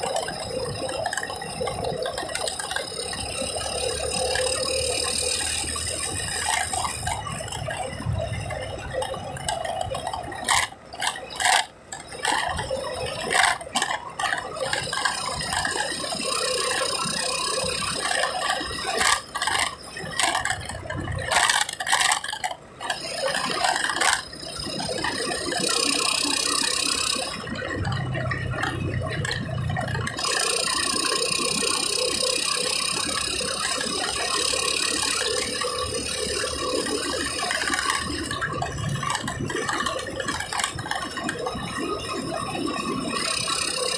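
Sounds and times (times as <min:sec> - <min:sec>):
road and engine noise: 0:00.0 - 0:43.9.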